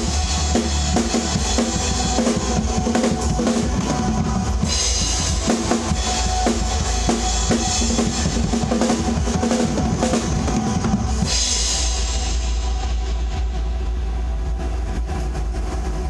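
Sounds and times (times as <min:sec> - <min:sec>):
drum kit playing: 0:00.0 - 0:13.9
backing music track: 0:00.0 - 0:16.0.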